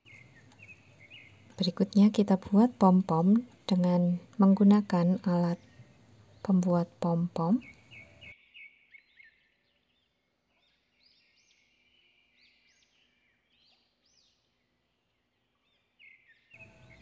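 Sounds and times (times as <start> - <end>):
faint high bird chirps: 0.0 - 14.6, 15.4 - 17.0.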